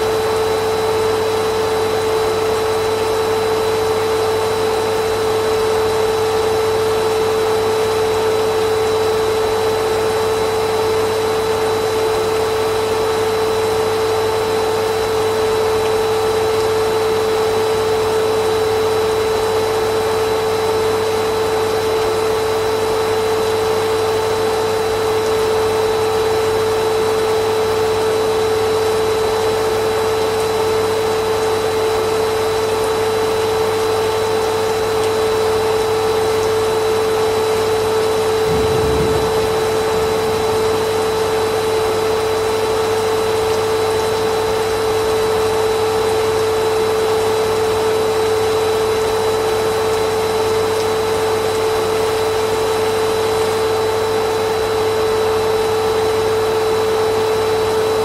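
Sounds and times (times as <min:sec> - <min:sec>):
vacuum cleaner motor whining: 0:00.0 - 0:58.0.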